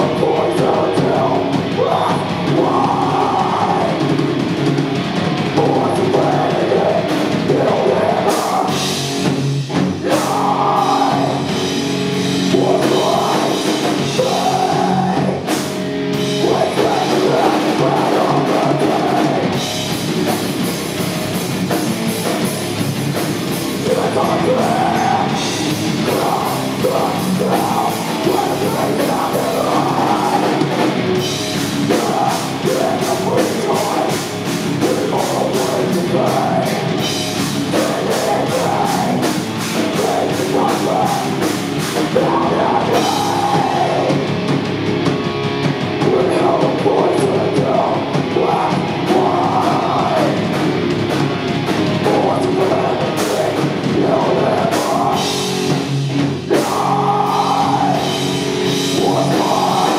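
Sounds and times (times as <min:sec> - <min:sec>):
bass guitar: 0:00.0 - 0:59.9
drum kit: 0:00.0 - 0:59.9
electric guitar: 0:00.0 - 0:59.9.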